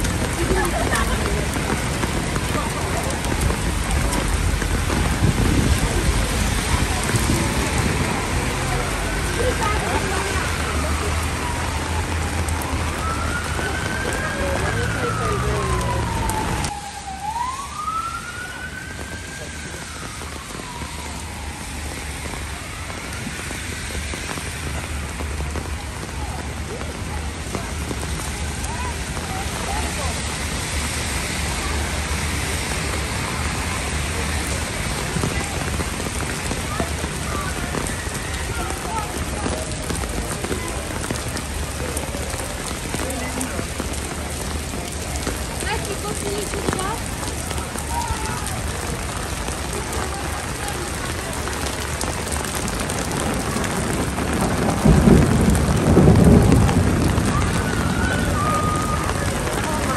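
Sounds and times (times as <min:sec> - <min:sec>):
heavy rain on pavement: 0:00.0 - 0:59.9
thunder rumble: 0:00.0 - 0:59.9.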